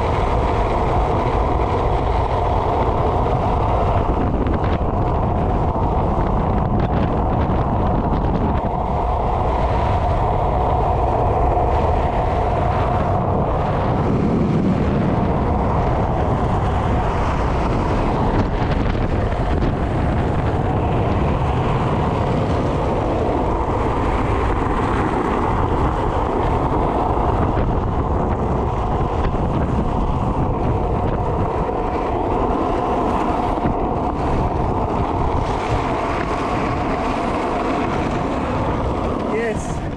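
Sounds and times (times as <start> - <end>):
wheels rolling on asphalt: 0.0 - 39.9
wind rushing over microphone: 0.0 - 39.9.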